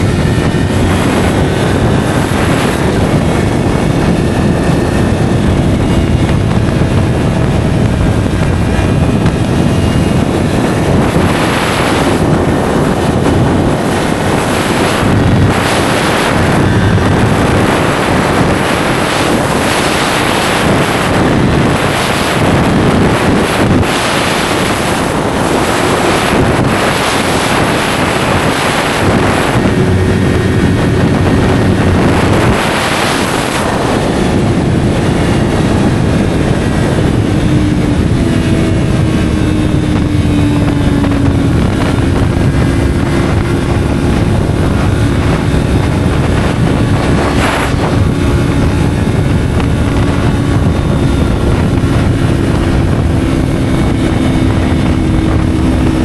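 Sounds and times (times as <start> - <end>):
motorcycle engine cruising: 0.0 - 56.0
wind rush on microphone: 0.0 - 56.0.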